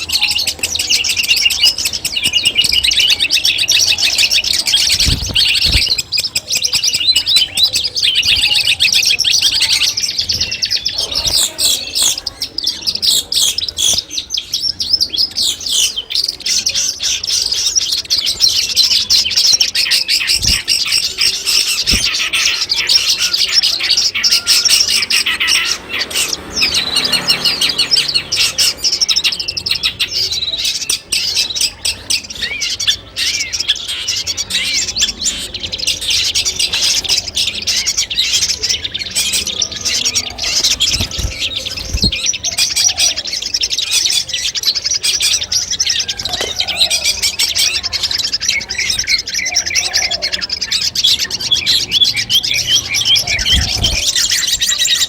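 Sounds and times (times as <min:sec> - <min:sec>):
shrike song chirps and trills: 0:00.0 - 0:55.0.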